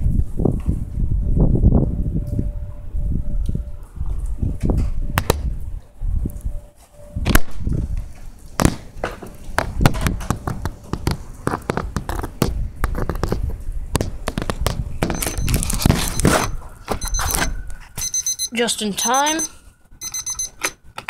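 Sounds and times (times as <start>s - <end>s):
wind rumbling on microphone: 0.0s - 18.1s.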